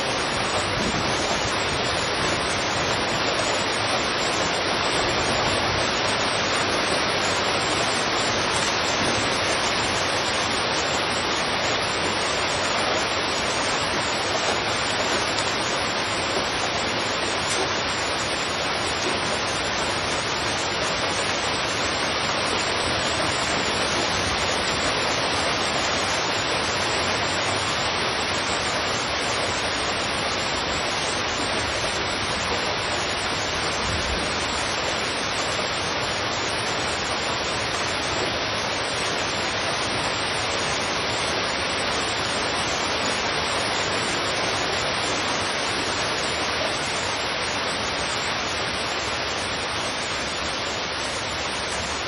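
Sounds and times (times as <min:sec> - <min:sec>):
heavy rain on a street: 0:00.0 - 0:52.0.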